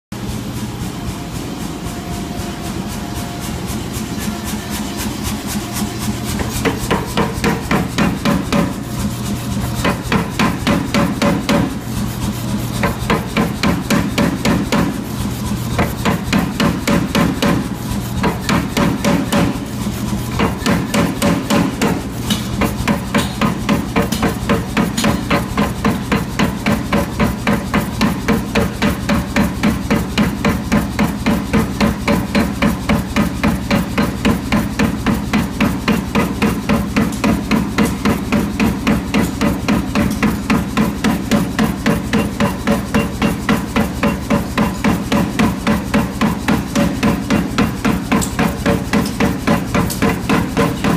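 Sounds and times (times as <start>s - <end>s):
steady low hum: 0.1s - 50.9s
power hammer striking hot metal: 1.4s - 15.2s, 15.8s - 50.9s.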